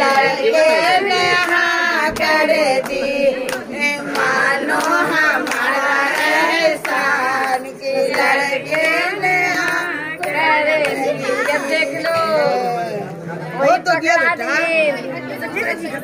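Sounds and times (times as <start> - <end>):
women singing together: 0.0 - 13.1
crowd noise: 0.0 - 16.0.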